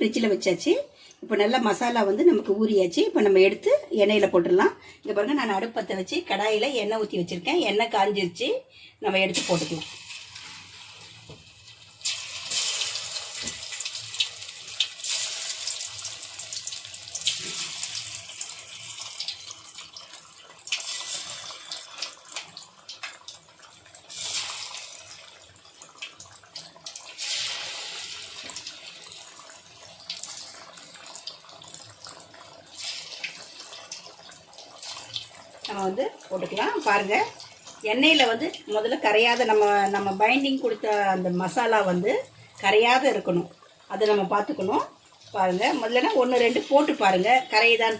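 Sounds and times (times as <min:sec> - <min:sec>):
chicken deep-frying in hot oil: 0:09.1 - 0:47.9.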